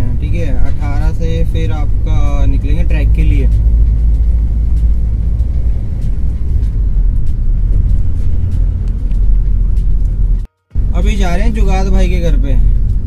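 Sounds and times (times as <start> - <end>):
car driving on paved road: 0.0 - 13.0.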